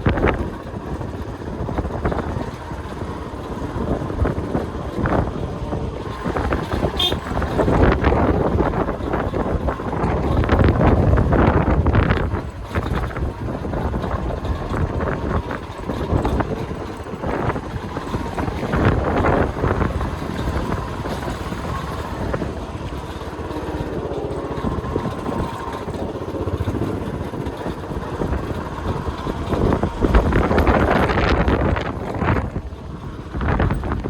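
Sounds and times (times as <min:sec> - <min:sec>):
vehicle road noise: 0:00.0 - 0:34.0
wind buffeting microphone: 0:00.0 - 0:34.0.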